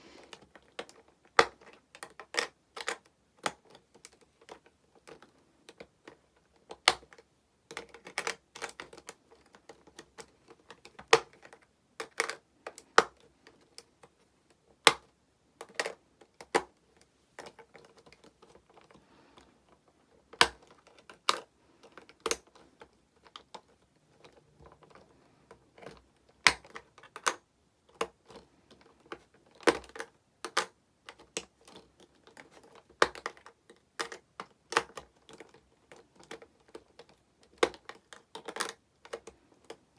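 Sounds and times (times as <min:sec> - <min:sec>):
plastic toy pieces clicking: 0:00.3 - 0:13.9, 0:20.3 - 0:39.8.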